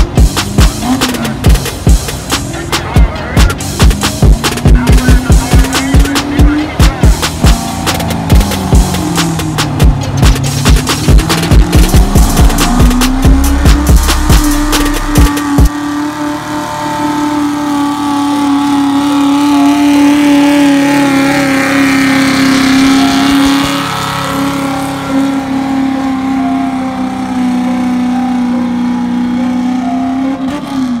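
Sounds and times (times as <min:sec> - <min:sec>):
truck engine at high revs: 0:00.0 - 0:31.0.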